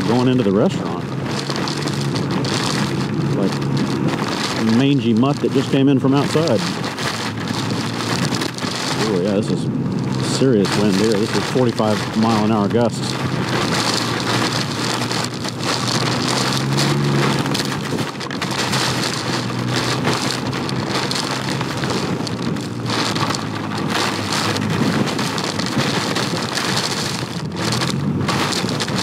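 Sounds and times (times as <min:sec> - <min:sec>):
heavy rain and wind on microphone: 0:00.0 - 0:29.0.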